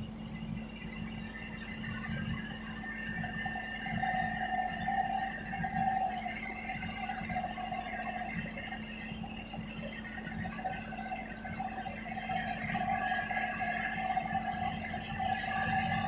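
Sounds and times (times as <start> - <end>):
wavering whine: 0.0 - 16.0.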